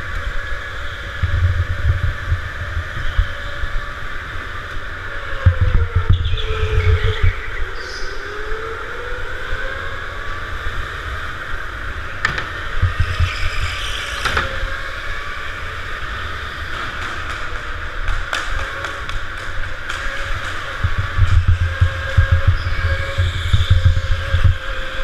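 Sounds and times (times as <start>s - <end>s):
go-kart engine rumble and whine: 0.0s - 25.0s.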